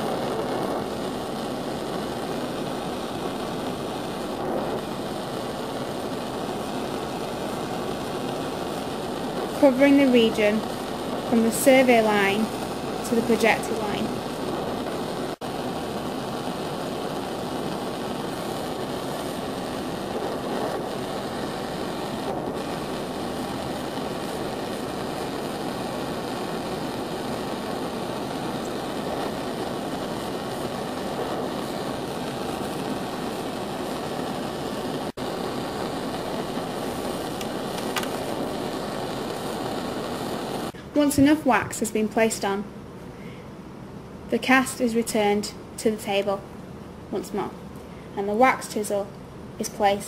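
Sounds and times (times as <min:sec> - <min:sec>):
steady rushing noise: 0:00.0 - 0:43.0.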